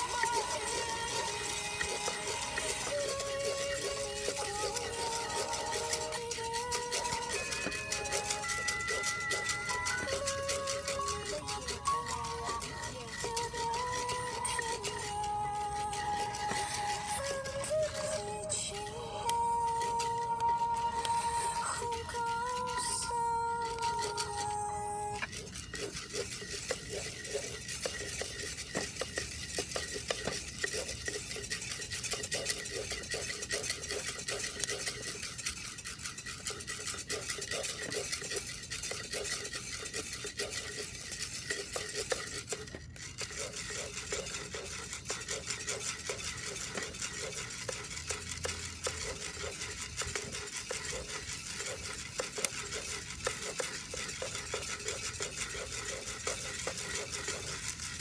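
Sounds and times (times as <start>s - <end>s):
coffee beans stirred in pot: 0.0s - 58.0s.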